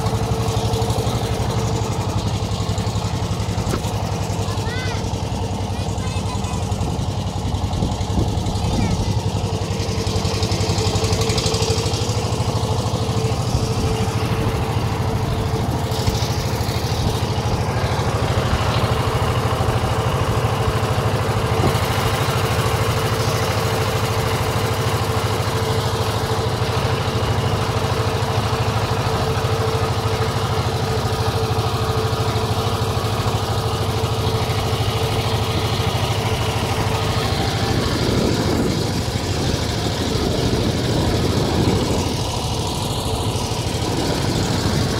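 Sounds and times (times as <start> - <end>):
boat engine droning: 0.0 - 44.9.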